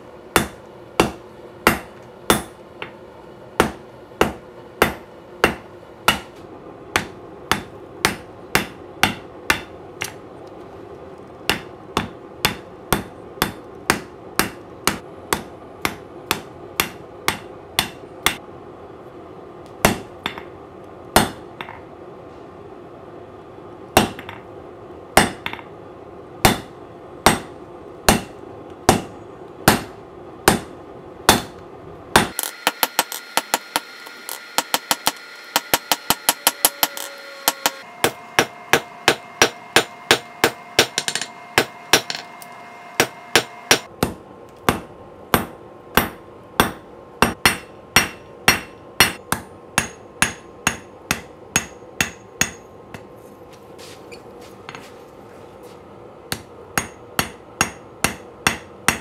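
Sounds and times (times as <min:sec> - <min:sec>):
hammer striking hot steel on anvil: 0:00.3 - 0:03.0, 0:03.6 - 0:10.2, 0:11.5 - 0:18.4, 0:19.8 - 0:20.5, 0:21.2 - 0:21.8, 0:24.0 - 0:24.4, 0:25.2 - 0:25.7, 0:26.4 - 0:53.1, 0:56.3 - 0:59.0.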